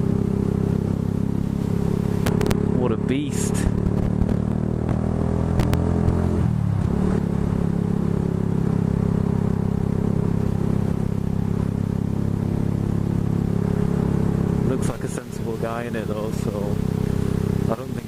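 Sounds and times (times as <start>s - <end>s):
vehicle engine idling: 0.0s - 4.3s, 6.6s - 18.0s.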